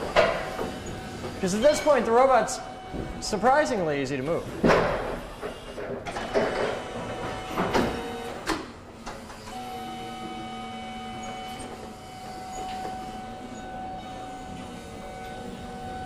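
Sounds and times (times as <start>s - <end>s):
forklift motor whining: 2.5s - 16.0s.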